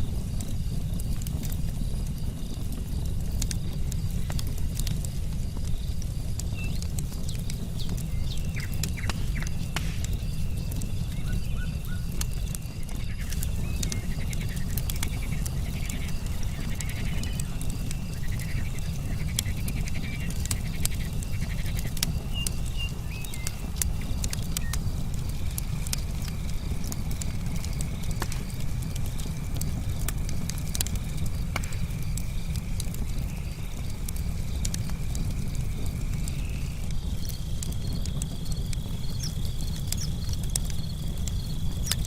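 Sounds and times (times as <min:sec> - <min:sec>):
campfire crackling and popping: 0:00.0 - 0:42.0
crickets chirping: 0:00.0 - 0:42.0
frogs croaking: 0:06.9 - 0:42.0.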